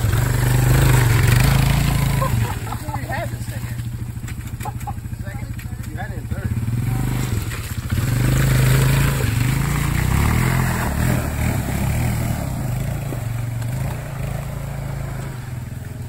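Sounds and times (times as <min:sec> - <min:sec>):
quad engine revving: 0:00.0 - 0:16.0.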